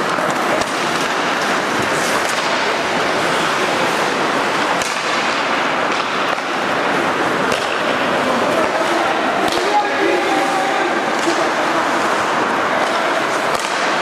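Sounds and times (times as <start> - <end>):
hockey sticks and puck clacking: 0.0 - 14.0
skate blades scraping ice: 0.0 - 14.0.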